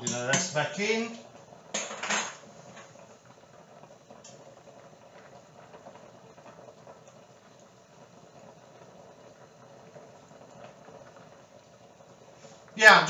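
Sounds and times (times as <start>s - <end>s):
water boiling in pot: 0.0s - 13.0s.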